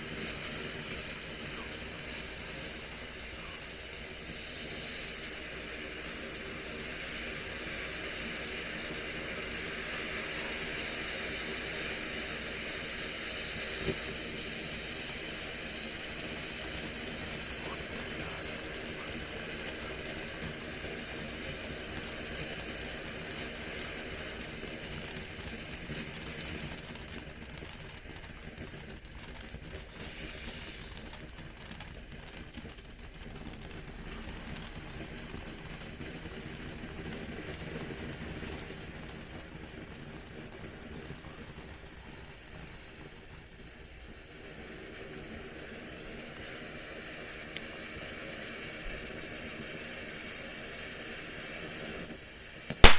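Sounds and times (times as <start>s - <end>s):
firework whistle: 0.0s - 26.7s, 28.5s - 31.8s, 37.0s - 52.9s
firework fountain hissing: 0.0s - 52.9s.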